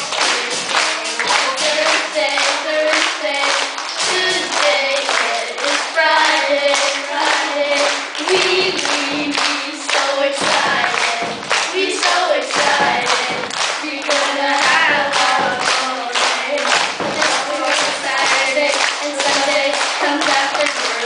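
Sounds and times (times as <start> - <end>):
crowd clapping in rhythm: 0.0 - 21.0
young voices singing through pa: 0.0 - 21.0.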